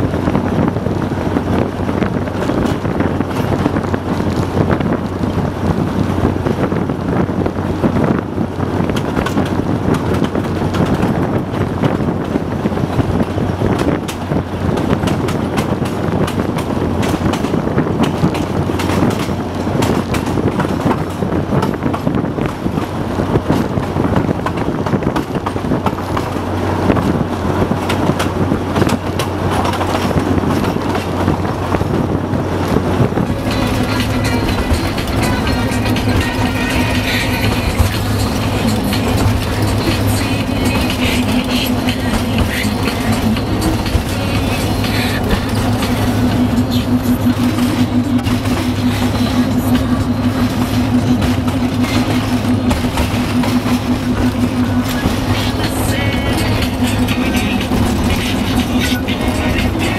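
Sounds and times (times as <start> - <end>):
diesel locomotive engine humming: 0.0 - 59.9
running gear rattling on track: 0.0 - 59.9.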